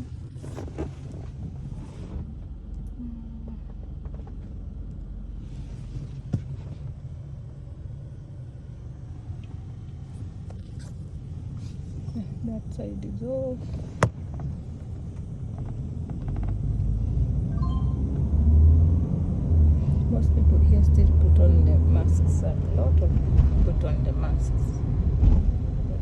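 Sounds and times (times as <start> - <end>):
car driving in traffic: 0.0 - 26.0.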